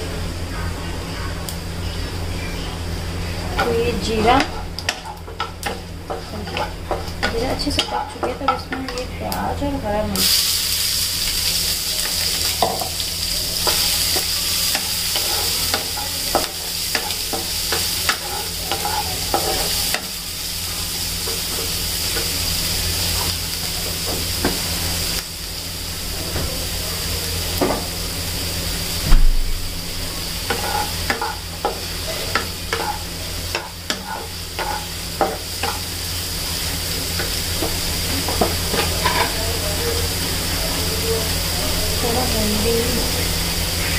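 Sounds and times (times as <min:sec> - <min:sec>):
onions sizzling in hot oil: 0:01.4 - 0:43.9.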